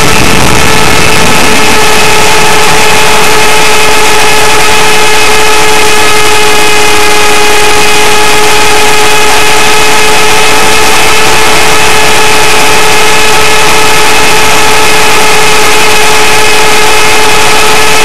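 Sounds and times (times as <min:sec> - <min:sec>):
helicopter motor whine: 0:00.0 - 0:18.0
rotor rush: 0:00.0 - 0:18.0.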